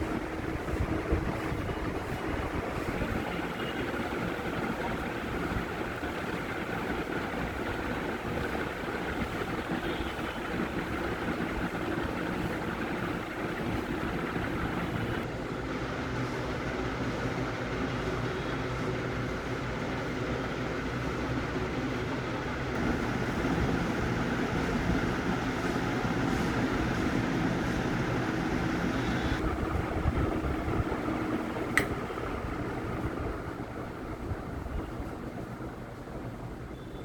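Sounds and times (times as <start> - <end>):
ceiling fan whirring hum: 0.0 - 37.0.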